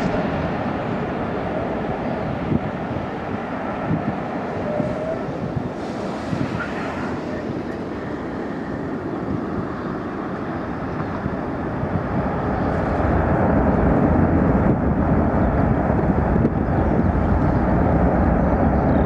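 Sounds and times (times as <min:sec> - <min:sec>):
jet engines roaring on takeoff: 0:00.0 - 0:19.0.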